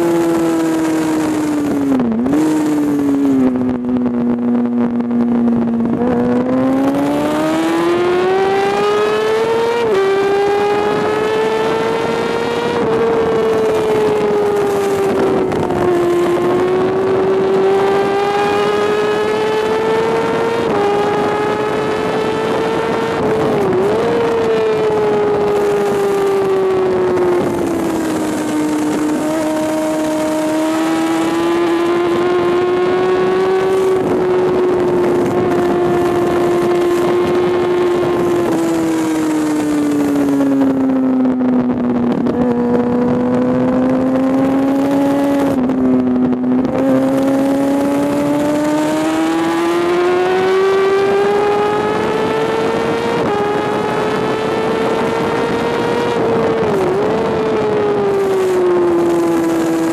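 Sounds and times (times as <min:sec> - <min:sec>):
motorcycle engine revving: 0:00.0 - 0:59.9
wind rushing past microphone: 0:00.0 - 0:59.9.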